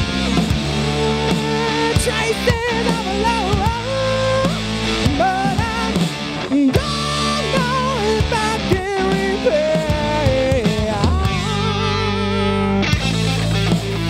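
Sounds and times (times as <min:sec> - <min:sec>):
live rock band playing: 0:00.0 - 0:14.0
man singing: 0:00.3 - 0:13.0.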